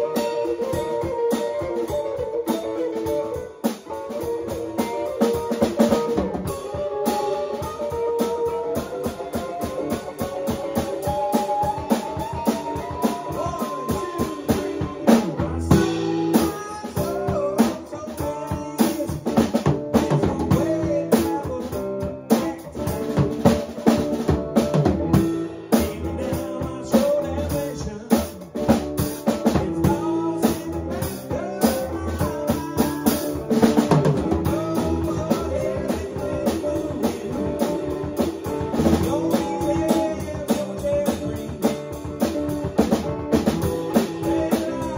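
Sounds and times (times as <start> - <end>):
drum kit beat: 0.0 - 44.9
guitar playing: 0.0 - 44.9.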